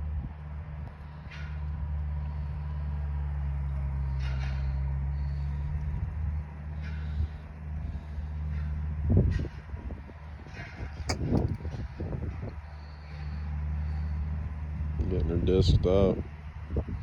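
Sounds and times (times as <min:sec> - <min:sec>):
tractor engine running: 0:01.0 - 0:15.3.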